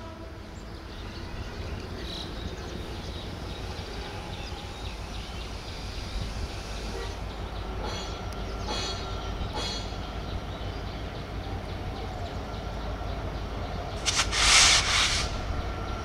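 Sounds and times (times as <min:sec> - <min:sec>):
diesel locomotive engine rumble: 0:00.0 - 0:16.0
train track noise: 0:00.0 - 0:16.0.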